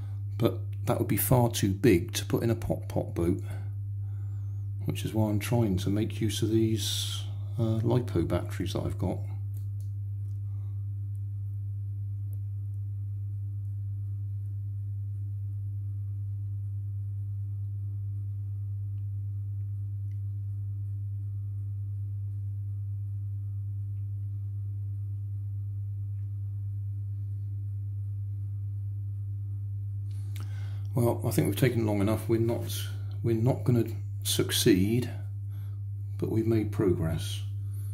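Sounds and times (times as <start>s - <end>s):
induction heater electrical hum: 0.0s - 37.9s.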